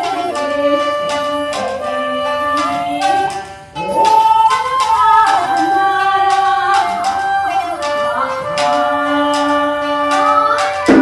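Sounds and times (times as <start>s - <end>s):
bamboo flute melody: 0.0s - 11.0s
karaoke backing track: 0.0s - 11.0s.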